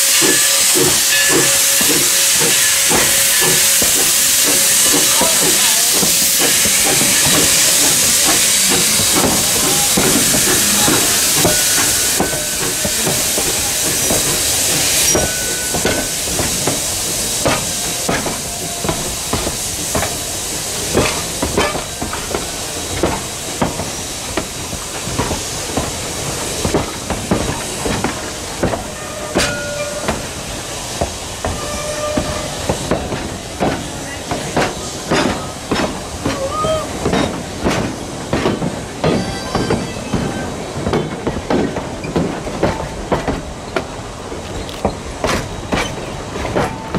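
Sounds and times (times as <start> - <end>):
steam locomotive hissing: 0.0 - 46.9
train wheels clicking over rail joints: 0.0 - 46.9.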